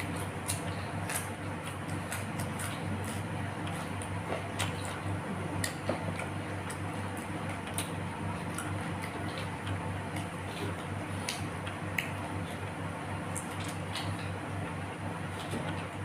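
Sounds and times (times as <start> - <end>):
chewing clicks and smacks: 0.0 - 14.5
steady low hum: 0.0 - 16.0.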